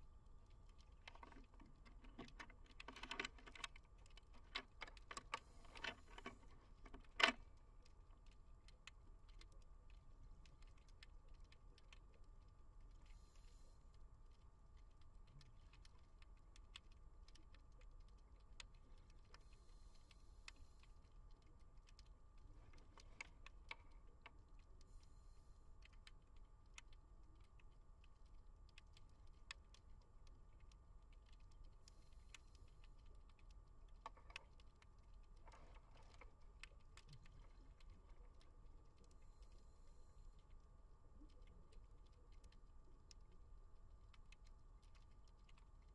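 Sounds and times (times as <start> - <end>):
underwater crackling clicks: 0.0 - 45.9.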